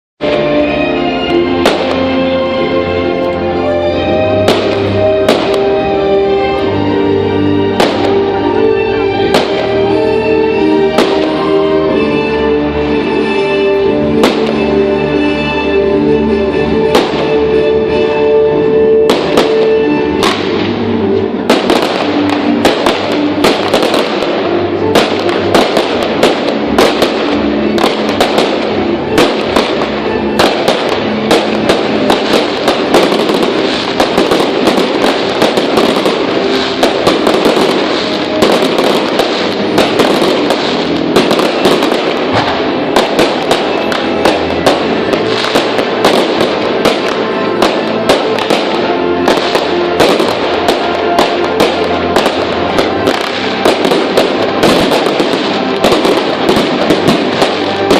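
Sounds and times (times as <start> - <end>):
fireworks bangs and crackles: 0.2 - 57.9
music playing: 0.2 - 57.9.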